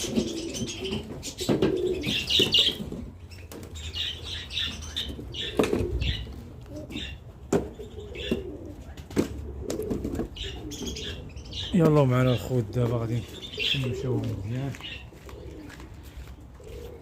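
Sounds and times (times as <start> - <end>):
pigeons cooing: 0.0 - 17.0
small cage birds chirping: 0.0 - 17.0.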